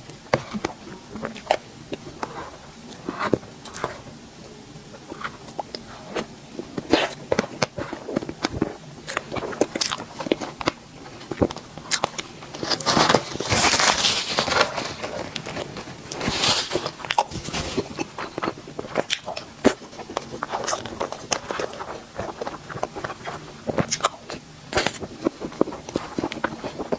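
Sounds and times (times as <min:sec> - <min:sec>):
close-miked eating and chewing: 0:00.0 - 0:26.9.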